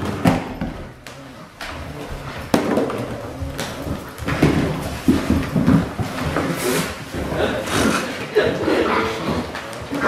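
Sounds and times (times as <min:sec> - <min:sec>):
puppies scuffling and scrabbling: 0:00.0 - 0:10.0.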